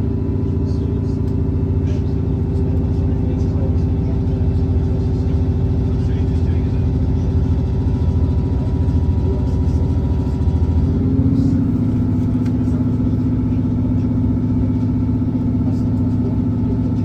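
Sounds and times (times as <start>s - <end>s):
diesel train running noise: 0.0s - 17.0s.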